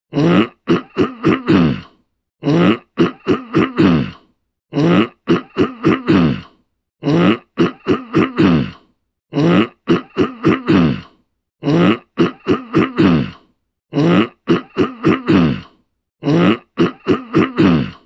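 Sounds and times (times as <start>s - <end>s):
person clearing throat: 0.1s - 18.0s.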